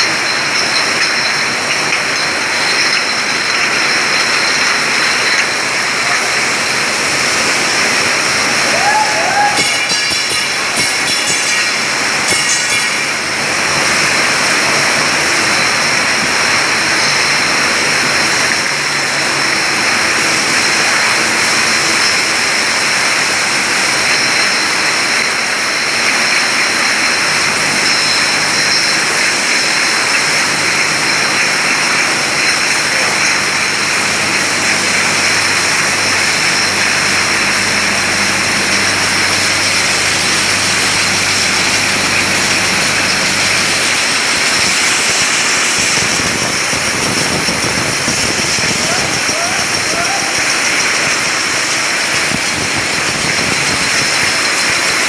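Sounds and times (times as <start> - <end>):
bottling machinery din: 0.0 - 55.0
high machine whine: 0.0 - 55.0.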